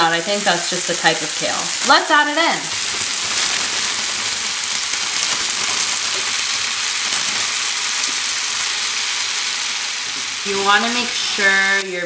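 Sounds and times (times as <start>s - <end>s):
kale sizzling in a frying pan: 0.0s - 12.0s.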